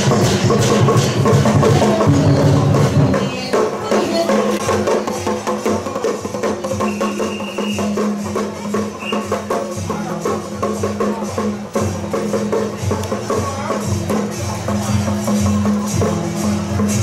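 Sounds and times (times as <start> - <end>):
drums gongs and cymbals: 0.0 - 17.0.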